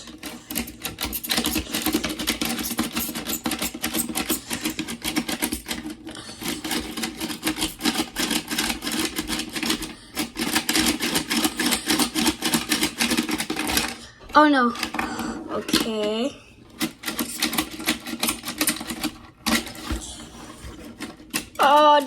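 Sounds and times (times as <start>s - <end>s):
plastic toys clicking and clattering: 0.0s - 22.0s.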